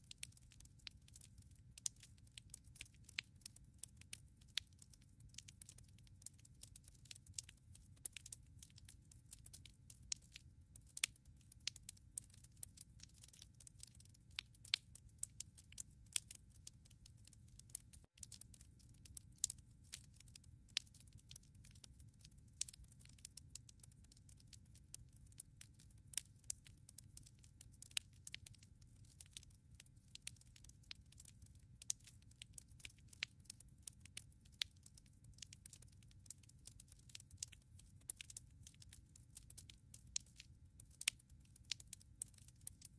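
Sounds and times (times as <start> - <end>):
burning logs crackling: 0.2 - 9.8, 10.9 - 25.4, 27.6 - 34.6, 35.3 - 38.8, 41.0 - 42.8.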